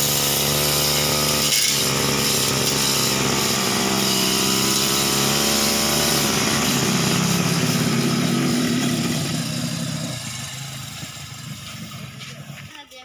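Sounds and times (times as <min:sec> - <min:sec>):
brush cutter engine running: 0:00.0 - 0:12.7.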